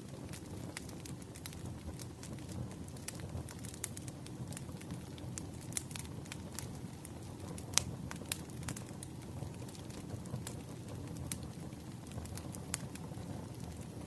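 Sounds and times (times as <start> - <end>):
campfire crackling: 0.0 - 14.0
low rumble of burning: 0.0 - 14.0.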